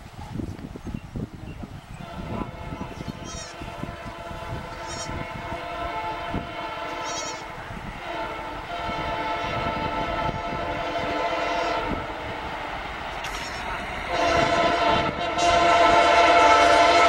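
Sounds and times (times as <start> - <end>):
locomotive engine and wheels: 0.0 - 17.0
locomotive horn blast: 2.0 - 17.0.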